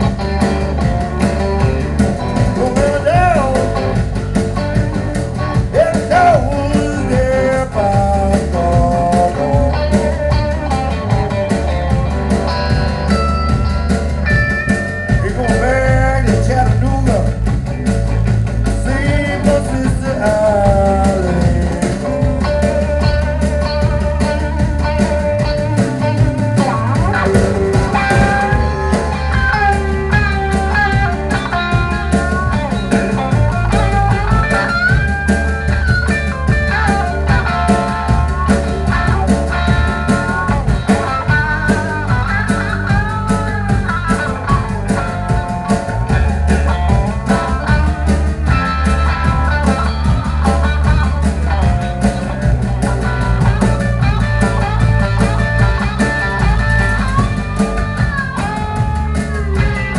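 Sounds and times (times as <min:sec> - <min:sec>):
bass guitar: 0:00.0 - 0:59.9
drum kit: 0:00.0 - 0:59.9
electric guitar lead: 0:00.0 - 0:59.9.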